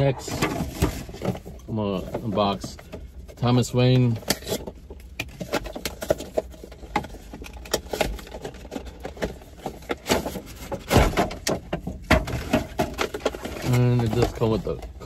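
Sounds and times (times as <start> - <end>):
cardboard packaging rustling: 0.0 - 15.0.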